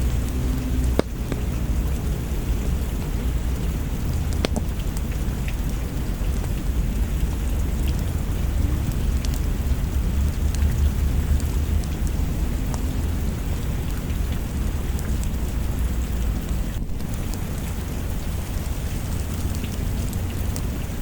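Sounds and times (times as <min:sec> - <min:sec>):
deep rumble: 0:00.0 - 0:21.0
log fire crackling and popping: 0:00.0 - 0:21.0
steady rain: 0:00.0 - 0:21.0.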